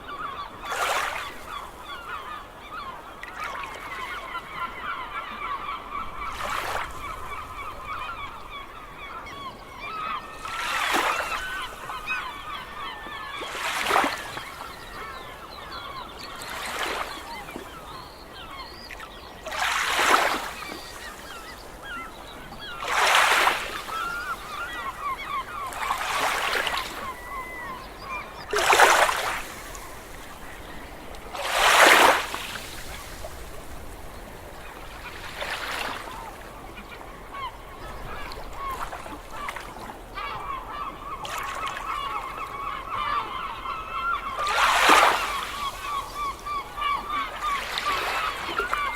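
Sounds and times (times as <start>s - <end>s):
gulls squawking: 0.0s - 48.9s
waves breaking: 0.0s - 48.9s.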